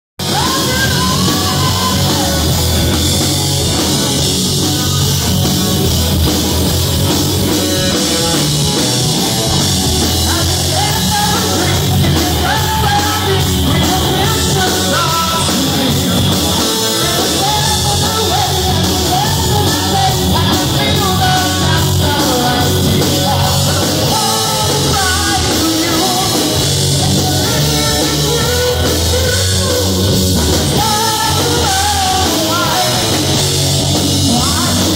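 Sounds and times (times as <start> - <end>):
drums: 0.2 - 34.9
electric guitar lead line: 0.2 - 34.9
rock band playing live: 0.2 - 34.9.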